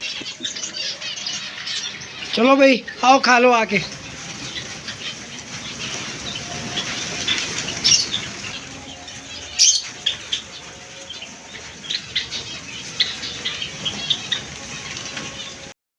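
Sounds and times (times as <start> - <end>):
birds fluttering wings: 0.0 - 15.7.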